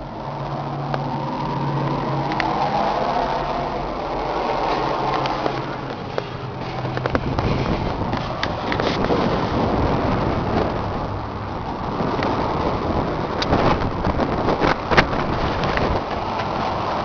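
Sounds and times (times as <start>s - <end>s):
diesel engine idling: 0.0s - 14.4s.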